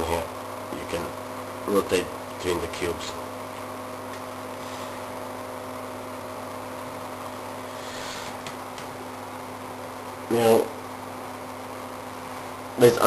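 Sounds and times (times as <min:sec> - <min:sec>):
steady background hum with tones: 0:00.0 - 0:13.0.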